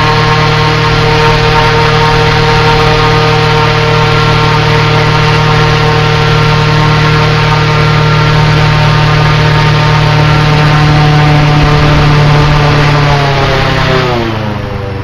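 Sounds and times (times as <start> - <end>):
airboat engine and propeller drone: 0.0 - 15.0.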